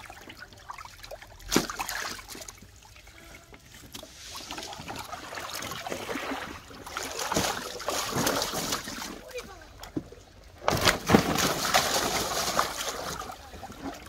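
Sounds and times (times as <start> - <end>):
fish slapping water: 0.0 - 3.0, 3.8 - 9.5, 10.5 - 14.0
water sloshing and splashing: 0.0 - 14.0.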